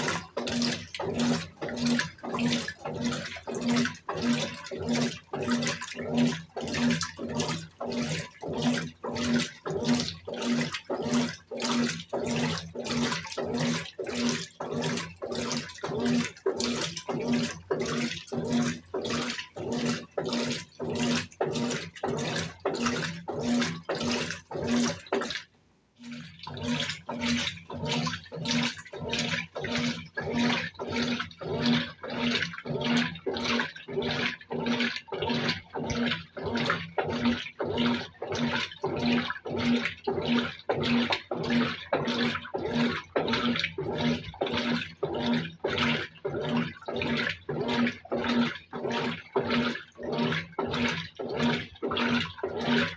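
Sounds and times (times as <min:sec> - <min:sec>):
washing machine motor hum: 0:00.0 - 0:52.9
washing machine sloshing water: 0:00.0 - 0:52.9.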